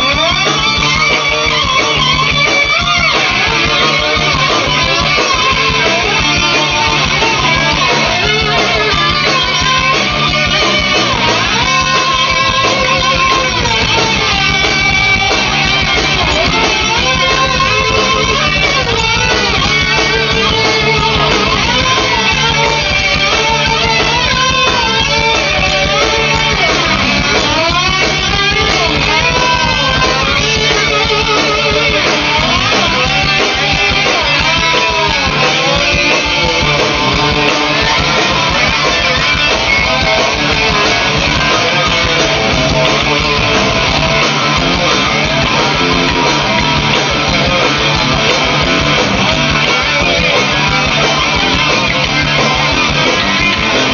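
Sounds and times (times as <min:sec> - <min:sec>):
lead electric guitar bending notes: 0:00.0 - 0:53.9
rock band playing live: 0:00.0 - 0:53.9.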